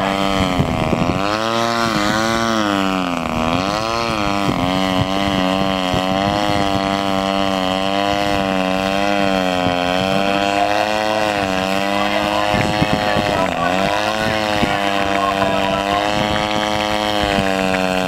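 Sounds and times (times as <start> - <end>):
model airplane engine revving: 0.0 - 18.0.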